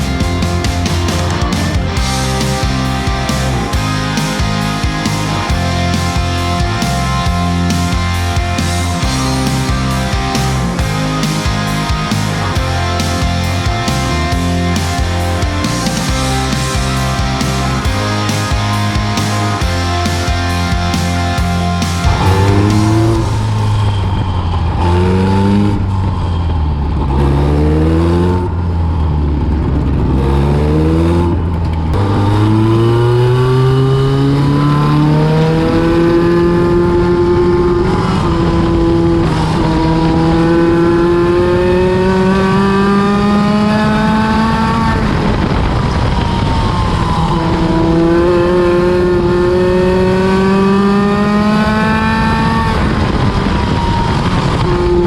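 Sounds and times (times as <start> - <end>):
race car engine revving: 0.0 - 55.0
several engines overlapping: 0.0 - 55.0.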